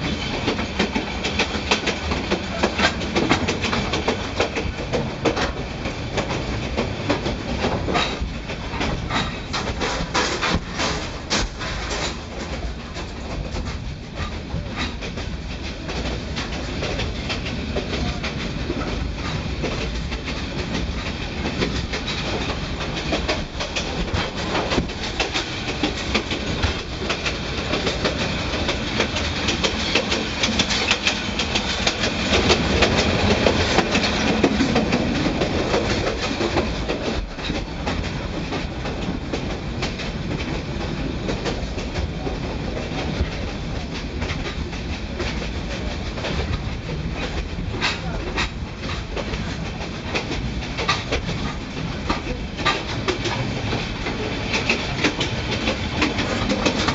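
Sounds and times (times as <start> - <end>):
train wheels clattering over rail joints: 0.0 - 56.9.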